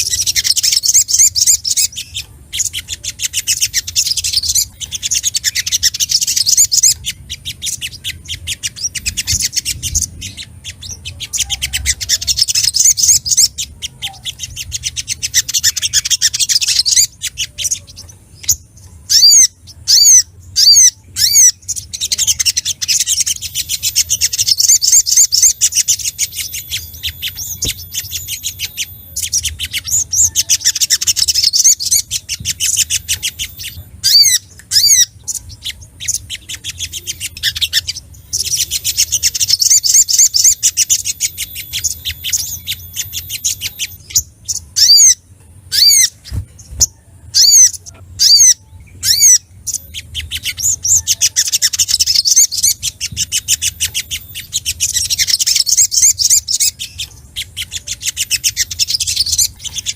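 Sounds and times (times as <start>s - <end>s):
bird rapid twittering: 0.0s - 59.9s
bird singing with sharp chirps: 0.0s - 59.9s.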